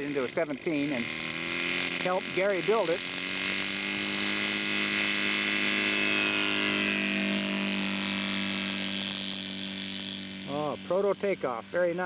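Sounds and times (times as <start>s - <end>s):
model aircraft engine running: 0.0s - 12.0s.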